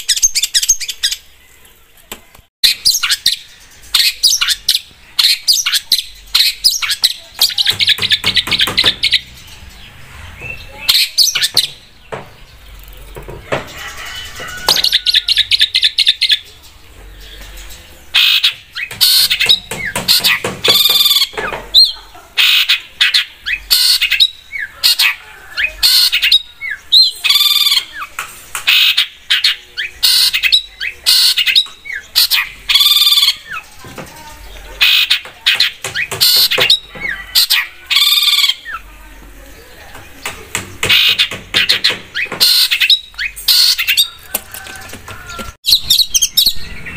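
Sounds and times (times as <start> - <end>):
bird singing chattering song: 0.0 - 46.9.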